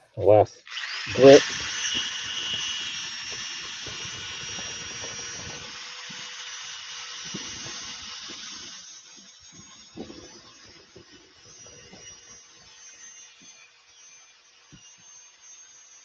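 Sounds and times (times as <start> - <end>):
electric drill motor whine: 0.6 - 16.0
sandpaper hissing on wood: 1.1 - 16.0.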